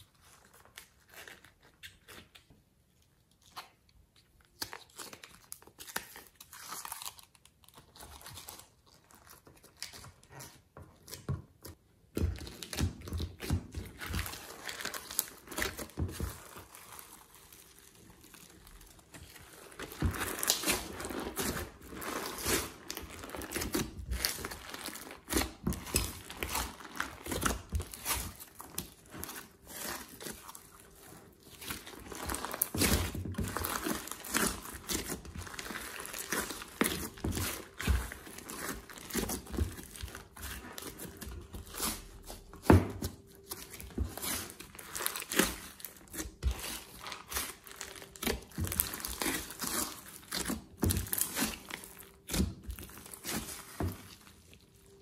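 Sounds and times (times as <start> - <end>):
hands squishing slime: 3.4 - 55.0.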